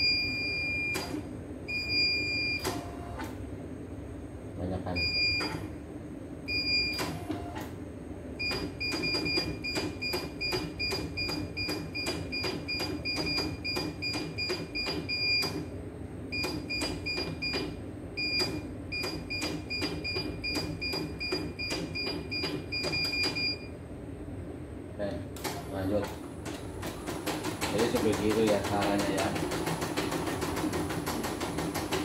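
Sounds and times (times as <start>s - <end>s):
steady low hum: 0.0s - 31.7s.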